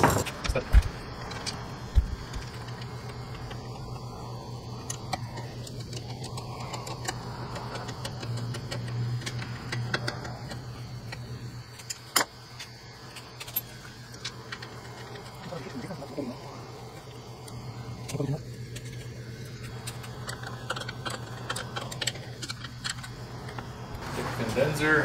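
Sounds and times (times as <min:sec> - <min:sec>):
low fan hum: 0:00.0 - 0:25.0.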